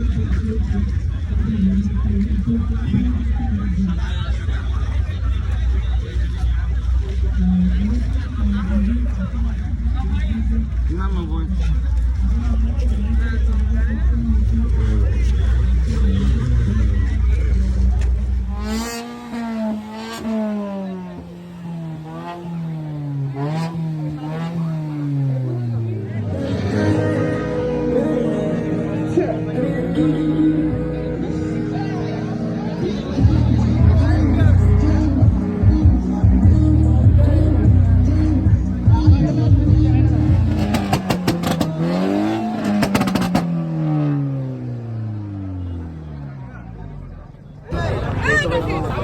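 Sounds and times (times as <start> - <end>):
car engine throttle blips: 0.1 - 49.0.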